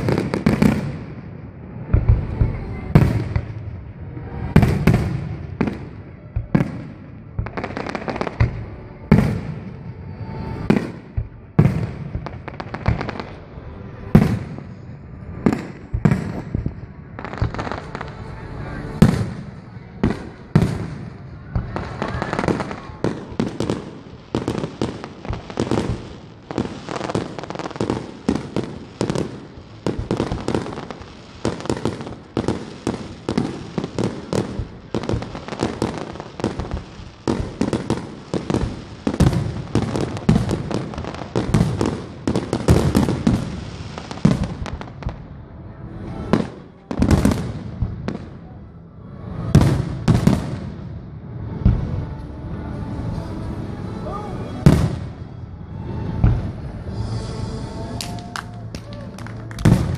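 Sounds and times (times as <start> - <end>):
loud firework booms: 0.0 - 13.4, 14.1 - 18.2, 18.9 - 45.3, 46.3 - 48.5, 49.4 - 51.0, 54.6 - 55.4
fireworks bangs and crackles: 0.0 - 59.9.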